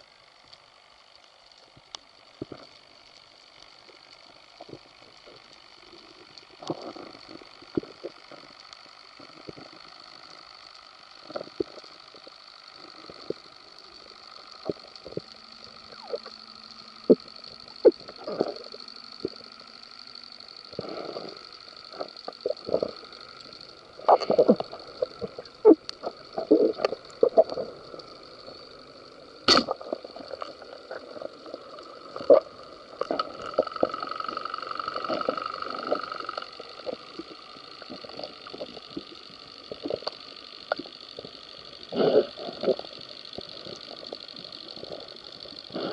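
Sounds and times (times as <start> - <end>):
high-pitched underwater hum: 0.0 - 45.9.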